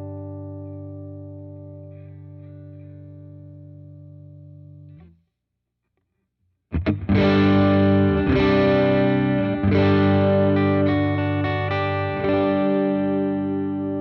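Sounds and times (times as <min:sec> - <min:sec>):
electric guitar chords: 0:00.0 - 0:05.2, 0:06.7 - 0:14.0.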